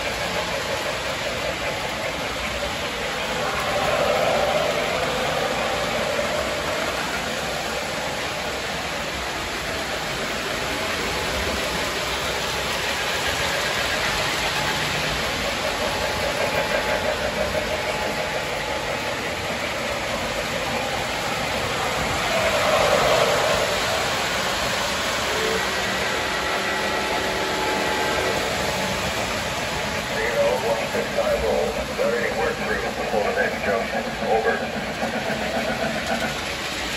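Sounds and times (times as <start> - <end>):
model trains rumbling on track: 0.0 - 36.9.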